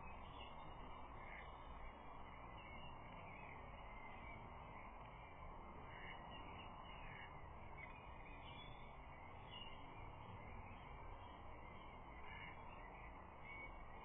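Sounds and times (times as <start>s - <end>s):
distant bird calls: 0.0s - 14.0s.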